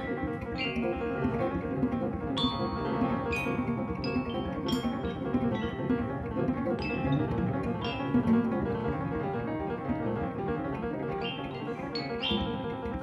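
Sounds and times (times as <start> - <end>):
cello: 0.0 - 13.0
piano: 0.0 - 13.0.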